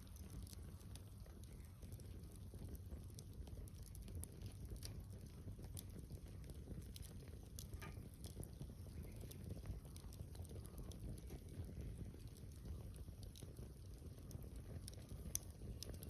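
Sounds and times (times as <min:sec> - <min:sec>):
campfire crackling: 0:00.0 - 0:16.0
fire pops and snaps: 0:00.0 - 0:16.0.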